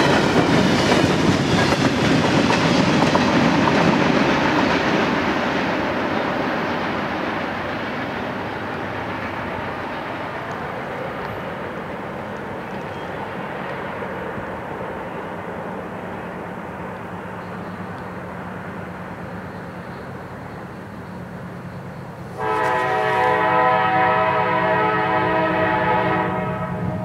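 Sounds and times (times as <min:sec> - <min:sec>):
diesel locomotive drone: 0:00.0 - 0:27.0
freight train rolling past: 0:00.0 - 0:27.0.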